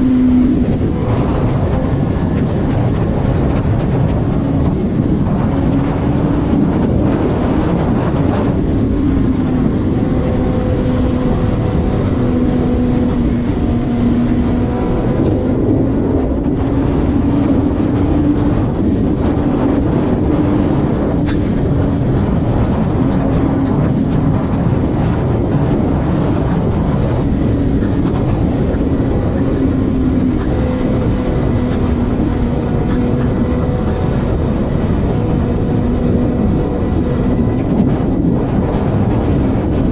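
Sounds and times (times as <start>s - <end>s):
road and wind noise: 0.0s - 39.9s
vehicle engine cruising: 0.0s - 39.9s.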